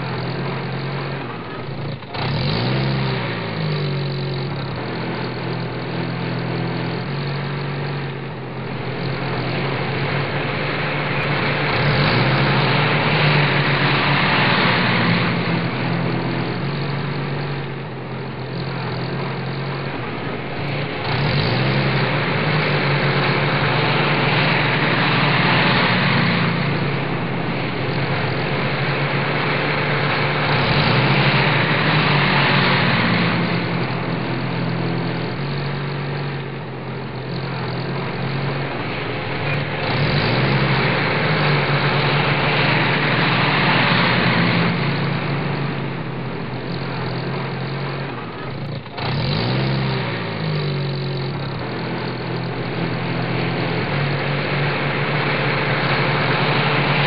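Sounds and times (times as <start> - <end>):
heavy engine idling and revving: 0.0 - 57.0.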